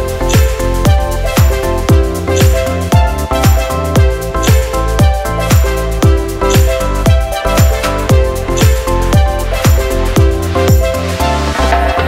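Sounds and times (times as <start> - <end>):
kick drum: 0.0 - 11.0
electronic dance music: 0.0 - 12.0.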